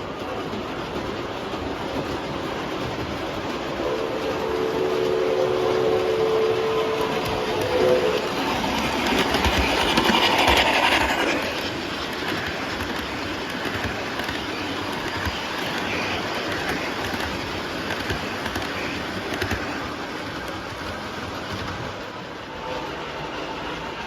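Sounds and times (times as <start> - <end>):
model train sound system: 0.0 - 24.0
model train wheels clicking: 0.0 - 24.0.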